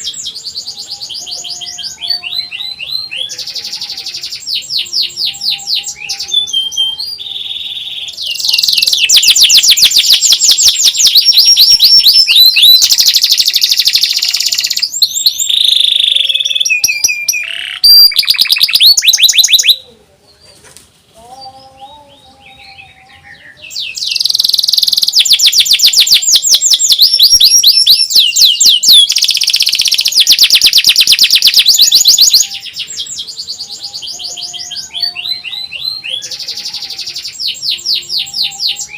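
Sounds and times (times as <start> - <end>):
canary singing trills: 0.0 - 20.5, 21.2 - 38.9.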